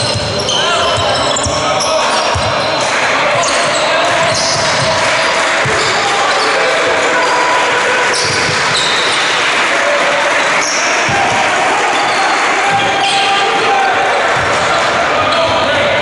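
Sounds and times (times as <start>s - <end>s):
players calling out: 0.0s - 16.0s.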